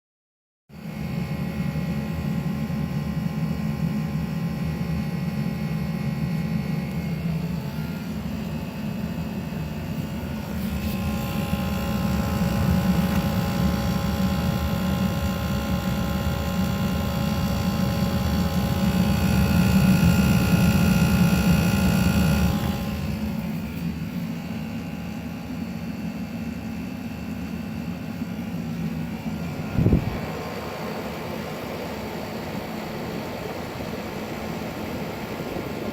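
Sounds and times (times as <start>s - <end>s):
fan noise: 0.7s - 35.9s
heat pump water heater buzzing: 0.7s - 35.9s.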